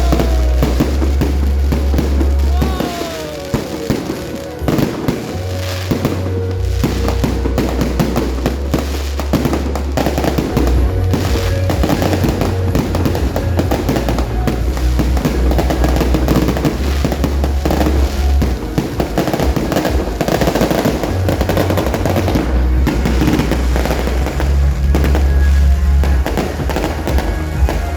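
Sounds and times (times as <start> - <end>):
fireworks bangs and crackles: 0.0 - 27.9
music playing: 0.0 - 27.9.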